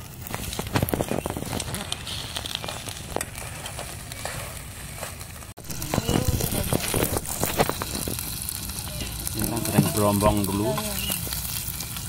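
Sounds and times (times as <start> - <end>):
food sizzling and popping in pan: 0.0 - 12.0.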